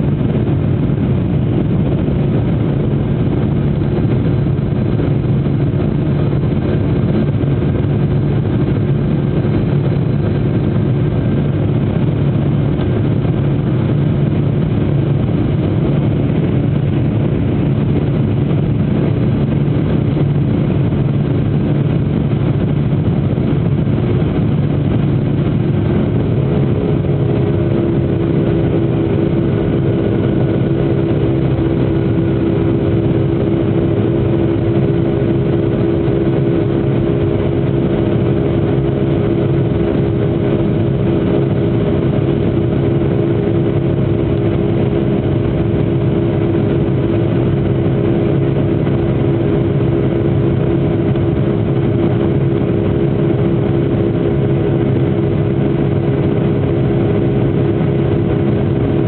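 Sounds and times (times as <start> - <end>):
jet engines humming in cabin: 0.0 - 59.0.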